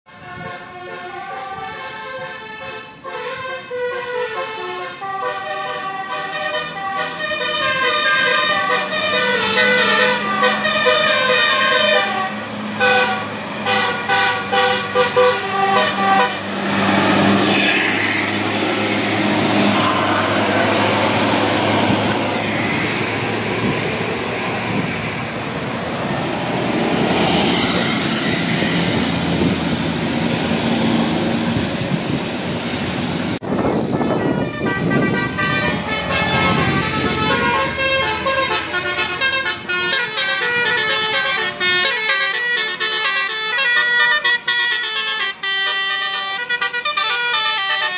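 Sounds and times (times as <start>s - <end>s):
multi-tone bus horns playing tunes: 0.1s - 31.6s, 33.4s - 47.9s
bus engine passing: 0.1s - 47.9s.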